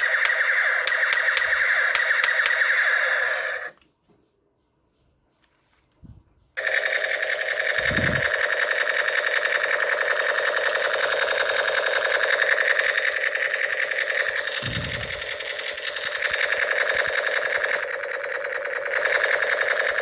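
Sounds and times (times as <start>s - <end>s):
toy gun mechanical rattle: 0.0s - 3.7s, 6.6s - 20.0s.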